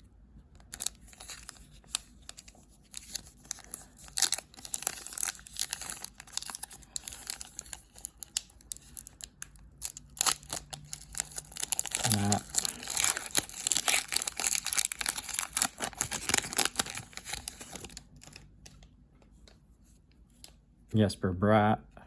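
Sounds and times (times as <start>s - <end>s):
wrapper tearing and crinkling: 0.6s - 18.8s.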